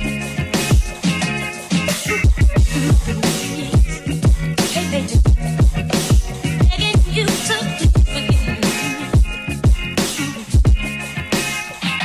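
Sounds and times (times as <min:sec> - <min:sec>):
electronic hip-hop beat: 0:00.0 - 0:12.0.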